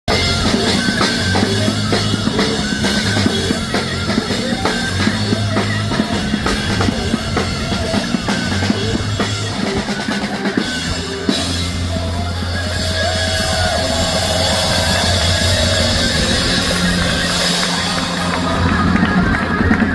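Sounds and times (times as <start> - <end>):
rock music: 0.1 - 19.9
sustained low bass notes: 0.1 - 19.9.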